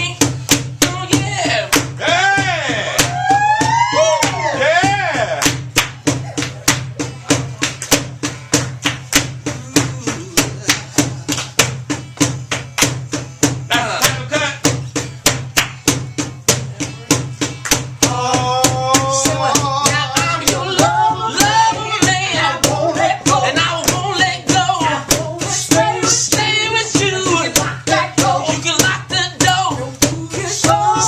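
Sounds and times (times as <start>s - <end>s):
live band playing soul groove: 0.0s - 31.0s
percussive hits: 0.0s - 31.0s.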